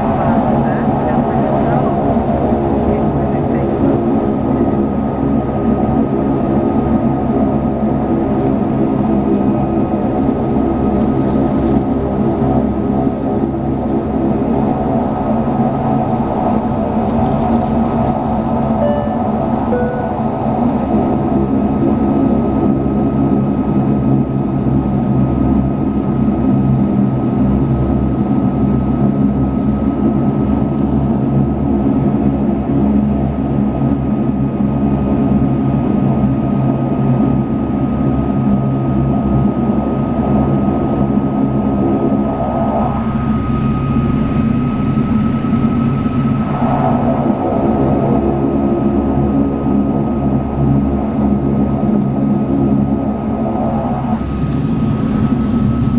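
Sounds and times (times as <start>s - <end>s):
engine whine: 0.0s - 55.9s
propeller engines humming: 0.0s - 55.9s.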